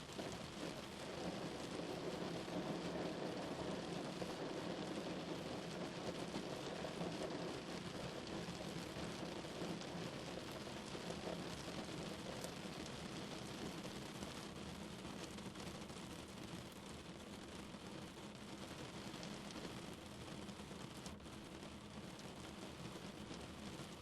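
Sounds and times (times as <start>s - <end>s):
heavy rain drumming on a car: 0.0s - 24.0s.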